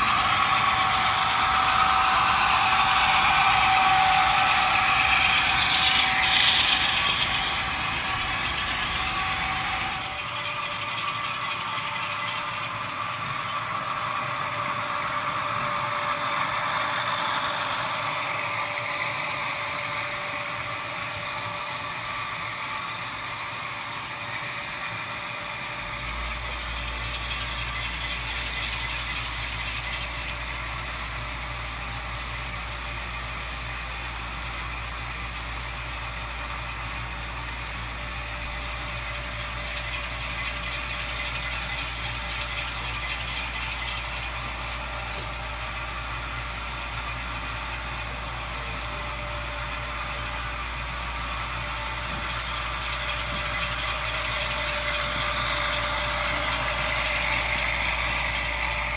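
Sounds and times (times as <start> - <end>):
diesel engine sound through small speakers: 0.0 - 58.9
model train cars rattling on track: 0.0 - 58.9.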